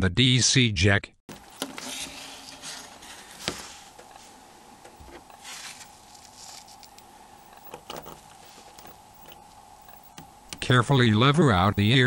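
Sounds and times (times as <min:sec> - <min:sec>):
faint steady hum: 0:01.3 - 0:12.0.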